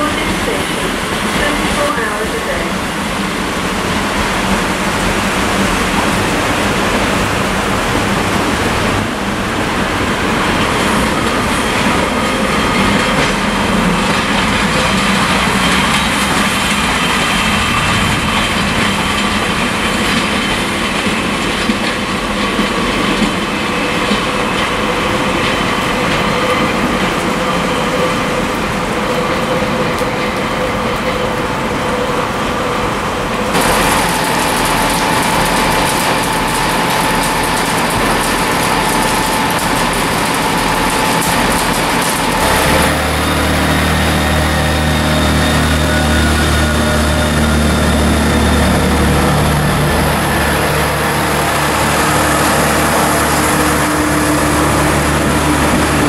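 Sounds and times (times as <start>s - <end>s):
diesel train engines running: 0.0s - 56.0s.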